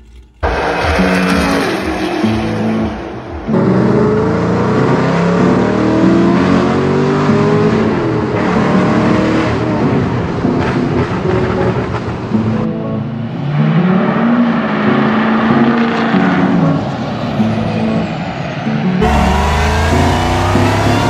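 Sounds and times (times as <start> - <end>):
car engines revving and accelerating: 0.0 - 21.0.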